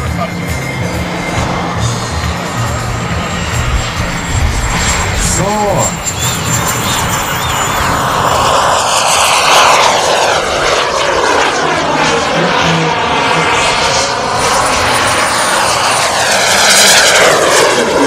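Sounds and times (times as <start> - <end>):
model jet turbines whining past: 0.0 - 18.0.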